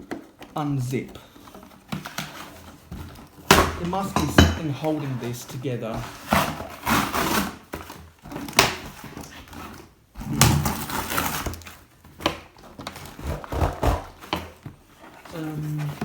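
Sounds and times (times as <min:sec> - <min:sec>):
cardboard packaging crinkling and tearing: 0:00.0 - 0:04.1, 0:04.7 - 0:16.0.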